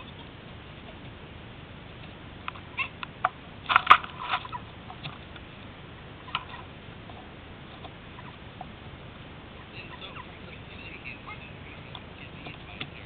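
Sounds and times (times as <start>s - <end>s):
turkey feet tapping and scraping: 0.0s - 13.0s.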